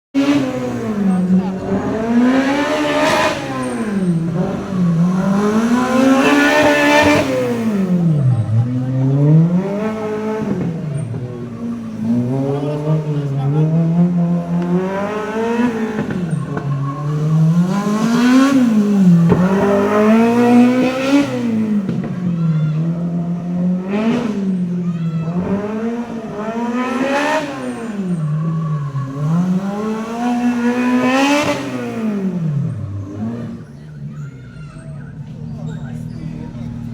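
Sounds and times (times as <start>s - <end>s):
car engine revving: 0.1s - 36.9s.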